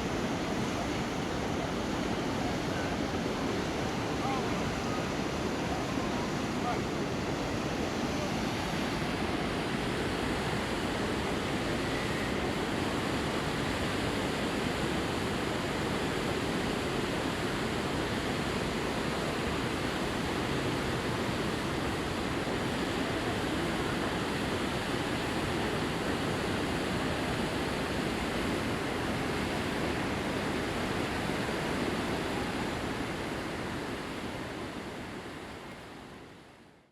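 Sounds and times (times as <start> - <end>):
river water flowing: 0.0 - 36.6.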